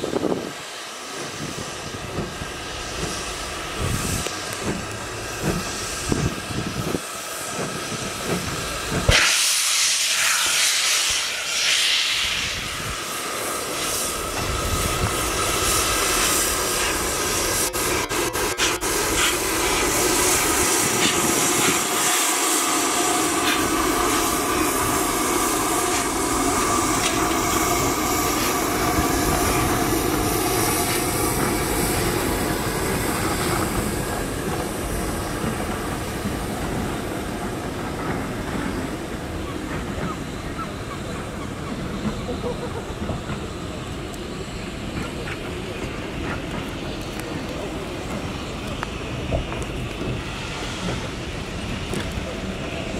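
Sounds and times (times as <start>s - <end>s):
coaches rumbling on rails: 0.0s - 9.2s, 12.2s - 52.9s
loud hiss of steam: 0.0s - 52.9s
steam locomotive getting under way: 0.0s - 52.9s.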